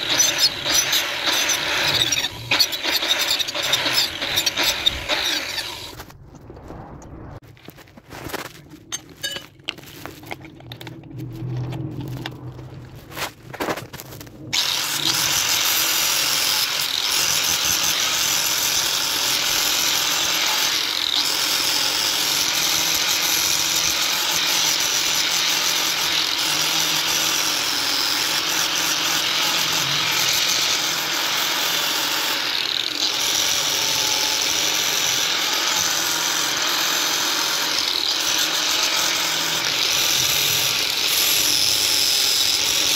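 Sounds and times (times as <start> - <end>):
angle grinder grinding metal: 0.0 - 6.1, 14.6 - 42.9.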